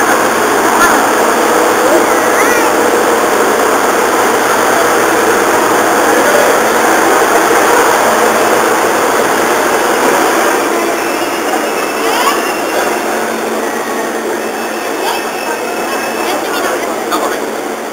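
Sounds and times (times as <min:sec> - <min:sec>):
train engine humming: 0:00.0 - 0:17.9.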